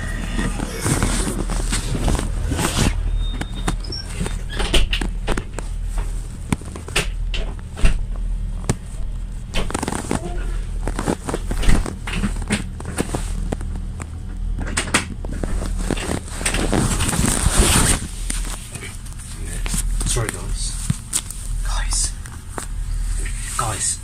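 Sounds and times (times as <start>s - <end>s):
train engine low hum: 0.0s - 24.0s.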